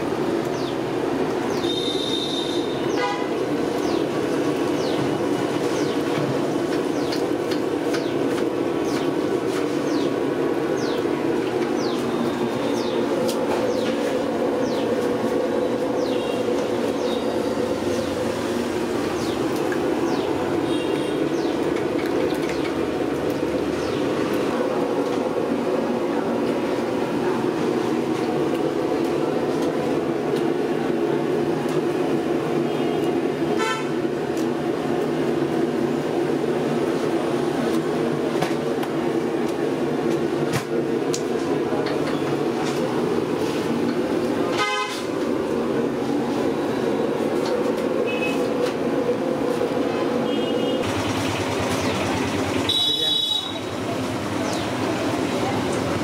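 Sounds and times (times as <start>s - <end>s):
loud droning hum: 0.0s - 56.0s.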